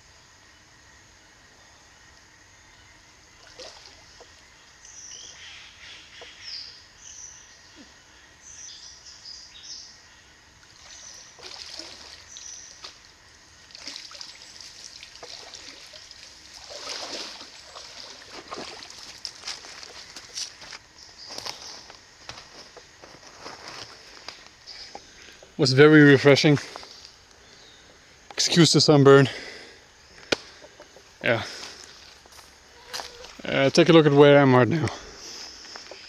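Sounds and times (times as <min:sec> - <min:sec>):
river water trickling and splashing: 0:02.0 - 0:06.4, 0:10.4 - 0:36.0.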